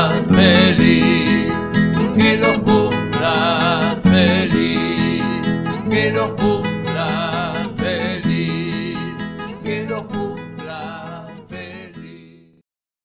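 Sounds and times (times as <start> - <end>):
instrumental celebration tune: 0.0 - 11.8.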